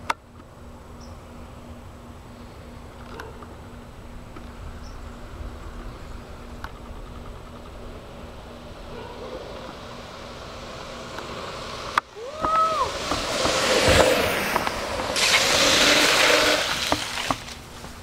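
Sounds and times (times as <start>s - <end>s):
longboard wheels rolling on asphalt: 0.0s - 18.0s.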